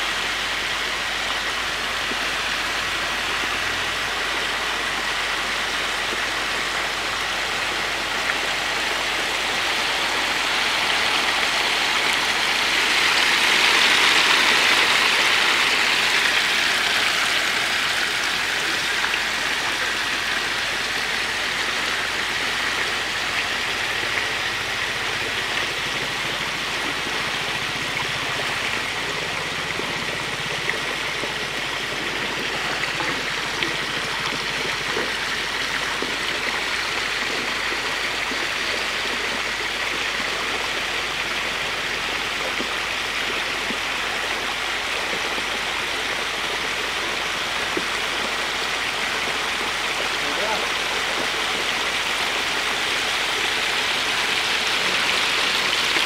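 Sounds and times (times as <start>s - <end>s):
water pouring from pipes: 0.0s - 56.0s.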